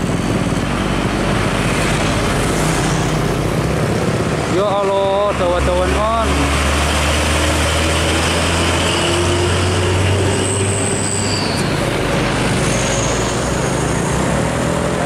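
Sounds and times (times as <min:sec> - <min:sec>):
diesel truck engine rumble: 0:00.0 - 0:15.0
tyre and road noise: 0:00.0 - 0:15.0.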